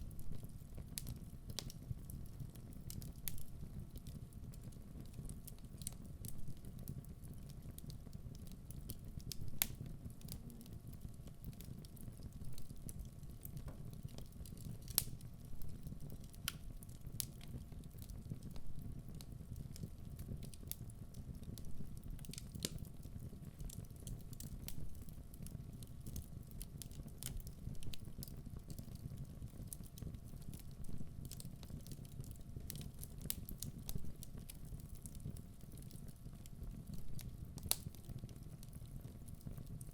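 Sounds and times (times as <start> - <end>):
crackles and pops of burning logs: 0.0 - 39.9
low rumble of flames: 0.0 - 39.9.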